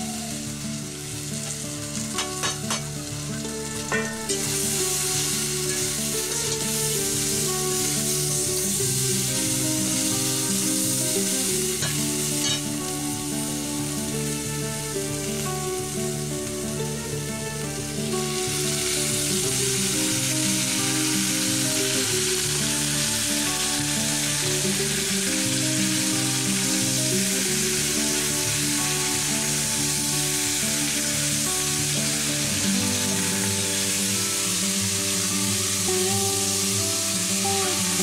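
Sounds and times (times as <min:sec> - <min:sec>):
background music: 0:00.0 - 0:38.0
food sizzling in oil: 0:00.0 - 0:38.0.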